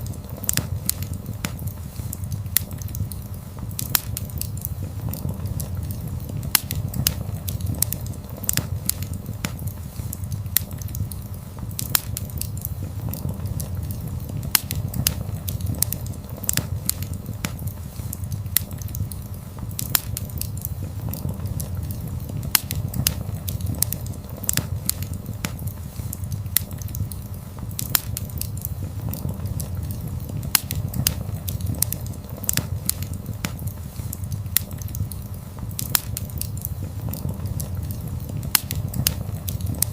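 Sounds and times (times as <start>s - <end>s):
fire crackling and popping: 0.0s - 39.9s
fire flames rumbling: 0.0s - 39.9s.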